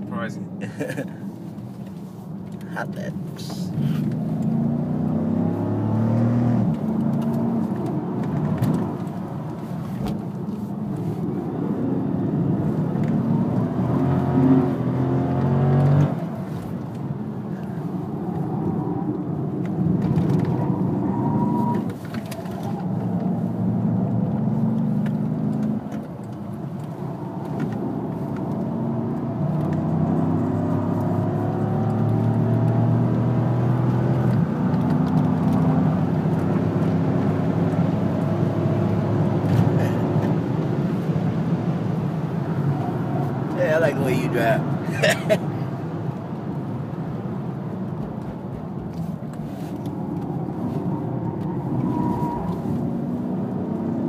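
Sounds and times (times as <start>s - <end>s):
car engine revving in cabin: 3.2s - 54.0s.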